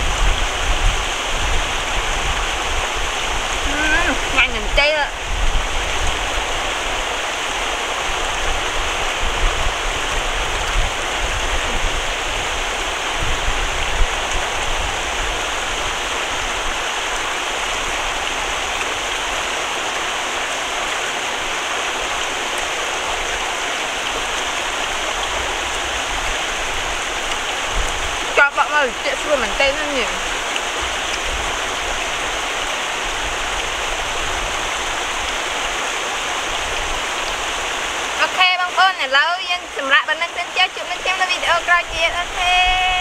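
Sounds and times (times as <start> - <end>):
floodwater rushing: 0.0 - 43.0.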